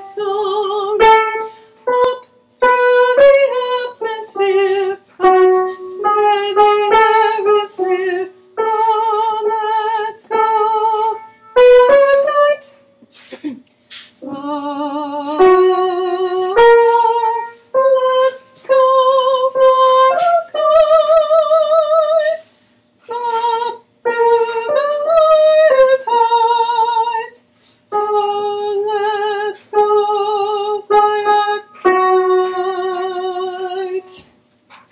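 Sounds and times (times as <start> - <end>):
woman singing: 0.0 - 12.8, 14.2 - 22.5, 23.1 - 34.3.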